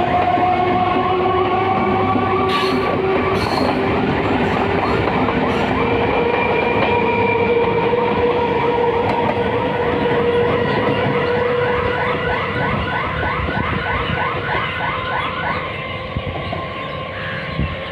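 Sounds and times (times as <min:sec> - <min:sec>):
train wheel and rail rumble: 0:00.0 - 0:17.9.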